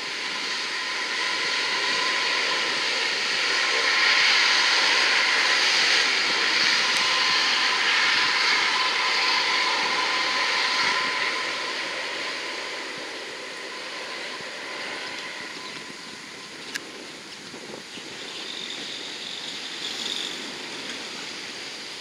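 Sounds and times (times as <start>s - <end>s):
turboprop engines whining: 0.0s - 22.0s.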